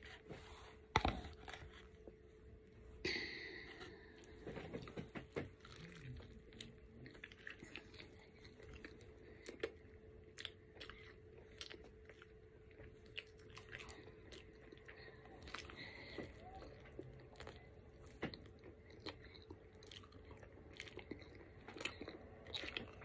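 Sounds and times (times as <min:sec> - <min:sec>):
low steady hum: 0:00.0 - 0:23.0
person chewing: 0:03.1 - 0:23.0.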